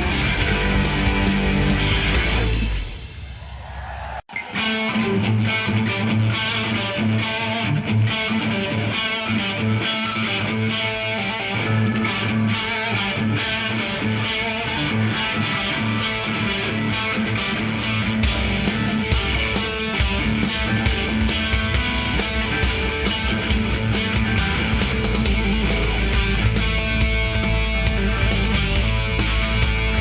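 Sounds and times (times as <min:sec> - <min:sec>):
electric guitar: 0:00.0 - 0:03.2, 0:04.3 - 0:30.0
bass guitar: 0:00.0 - 0:03.3, 0:04.3 - 0:30.0
drums: 0:00.0 - 0:30.0.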